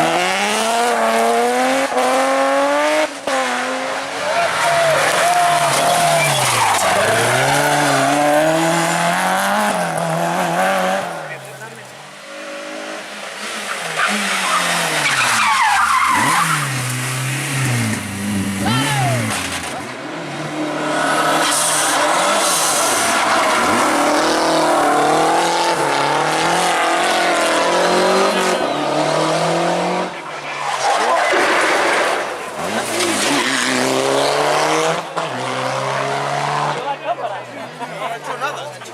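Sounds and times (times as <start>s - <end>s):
rally car engine revving: 0.0s - 37.0s
tyres skidding: 0.0s - 38.9s.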